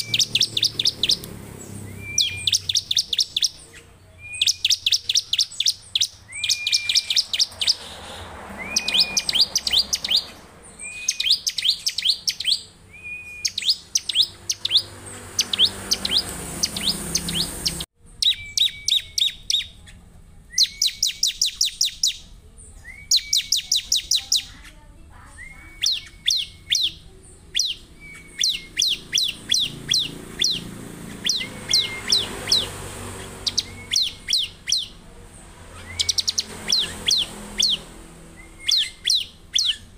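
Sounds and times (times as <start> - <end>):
bird singing high chips: 0.0 - 39.9.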